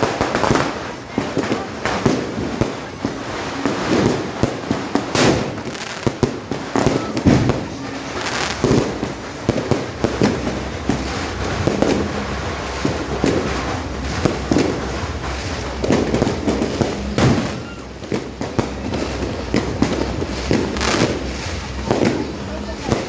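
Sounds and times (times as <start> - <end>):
fireworks bangs and pops: 0.0 - 23.0.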